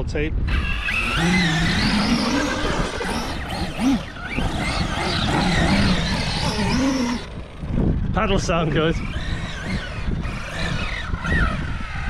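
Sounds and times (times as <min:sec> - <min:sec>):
electric motor whining: 0:00.4 - 0:12.0
tyres churning the ground: 0:00.5 - 0:12.0.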